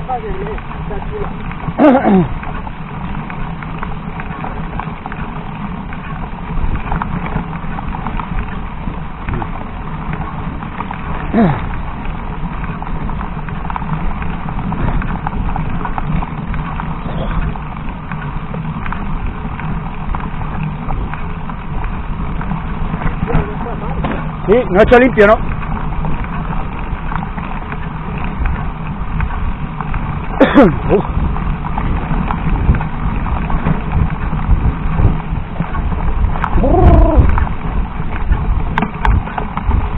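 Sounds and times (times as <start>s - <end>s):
bike rattles and knocks: 0.0s - 39.9s
bike rumbling over dirt trail: 0.0s - 39.9s.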